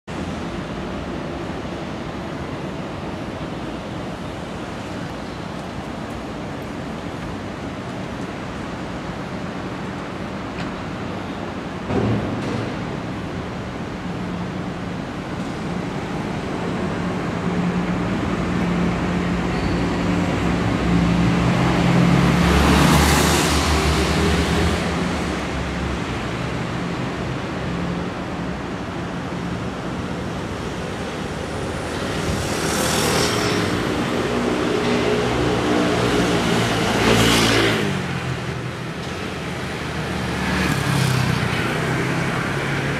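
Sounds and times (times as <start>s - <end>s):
road traffic noise: 0.0s - 42.9s.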